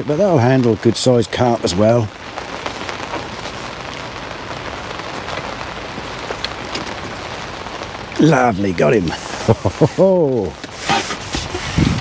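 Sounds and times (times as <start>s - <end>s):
rain pattering on umbrella: 0.0s - 12.0s.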